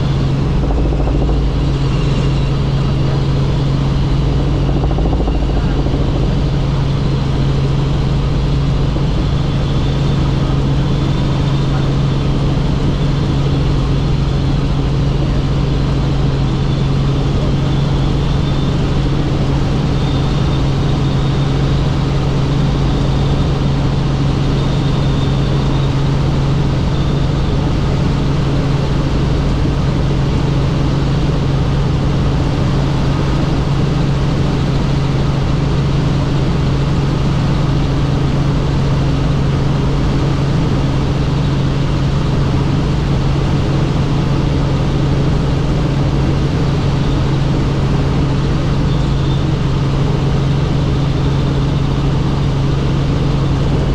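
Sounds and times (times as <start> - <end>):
helicopter rotor and engine drone: 0.0 - 53.9.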